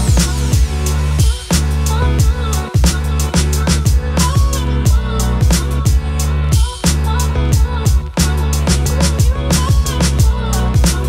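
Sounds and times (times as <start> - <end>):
music with drum beat and bass: 0.0 - 11.0.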